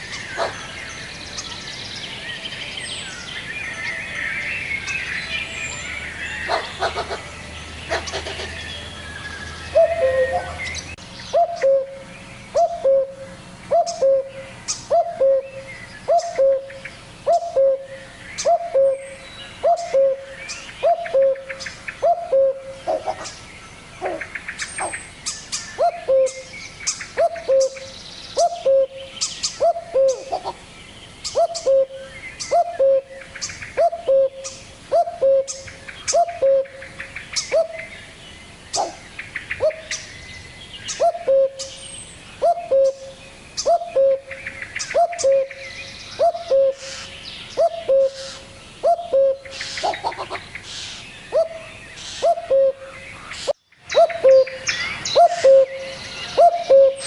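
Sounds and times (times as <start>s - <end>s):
songbirds chirping faintly: 0.0s - 57.0s
cuckoo calling: 5.5s - 23.4s, 24.0s - 30.6s, 31.2s - 37.9s, 38.7s - 40.2s, 40.9s - 57.0s.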